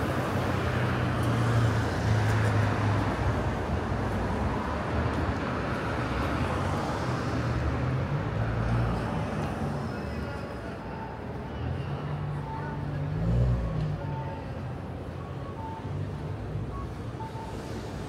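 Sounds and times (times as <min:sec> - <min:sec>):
street noise: 0:00.0 - 0:18.0
vehicles passing: 0:00.0 - 0:18.0.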